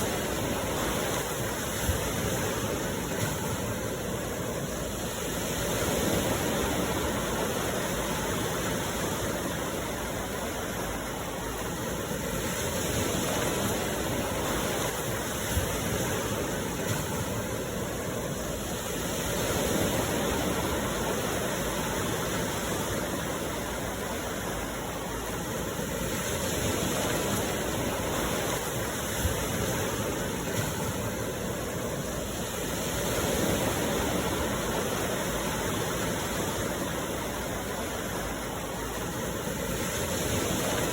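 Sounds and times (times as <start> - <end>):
sea waves washing ashore: 0.0 - 40.9.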